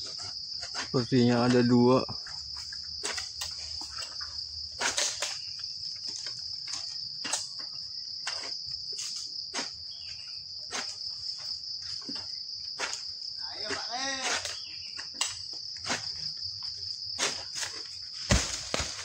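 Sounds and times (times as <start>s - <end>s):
insect chorus: 0.0s - 19.0s.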